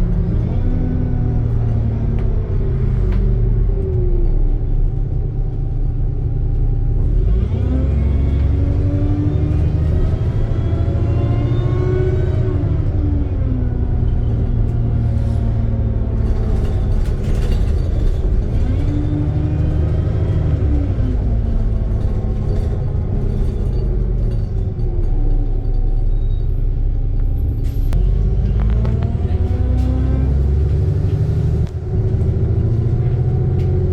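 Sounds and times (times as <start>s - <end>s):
bus engine rumble with whine: 0.0s - 33.9s.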